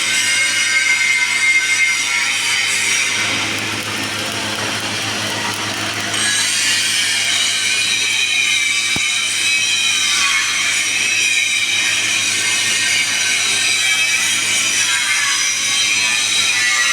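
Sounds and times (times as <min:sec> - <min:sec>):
welding arc hissing: 0:00.0 - 0:16.8.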